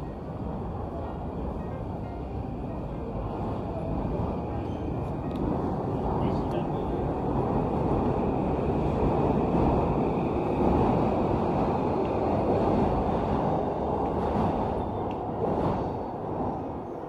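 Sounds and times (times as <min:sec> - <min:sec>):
railway station ambience rumble: 0:00.0 - 0:17.0.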